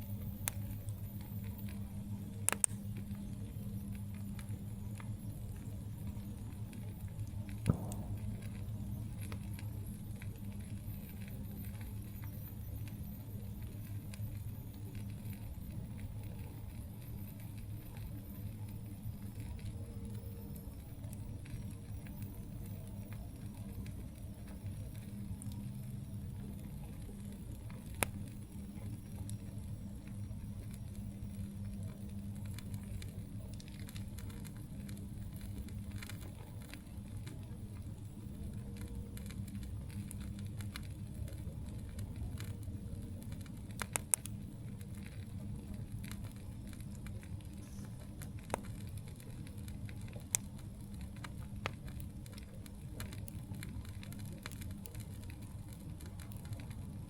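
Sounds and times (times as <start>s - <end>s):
campfire burning: 0.0s - 57.0s
fire crackles and pops: 0.0s - 57.0s.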